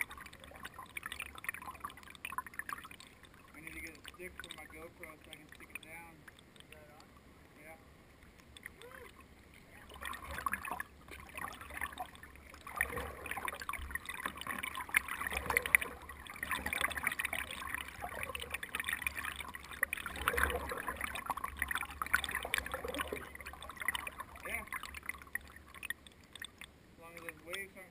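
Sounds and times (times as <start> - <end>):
water splashing around kayak: 0.0 - 27.9.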